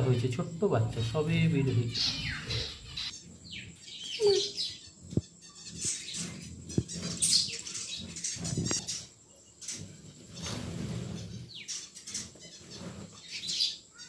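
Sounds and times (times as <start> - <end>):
finches chirping: 0.0 - 14.0.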